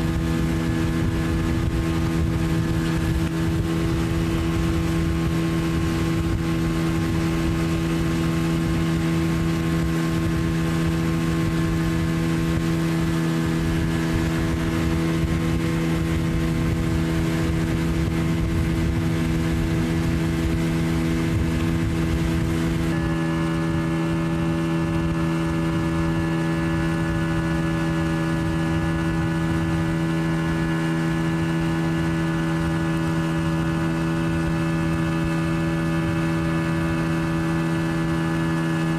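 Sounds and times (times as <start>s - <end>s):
motorboat engine drone: 0.0s - 38.9s
rush of wind and water: 0.0s - 38.9s.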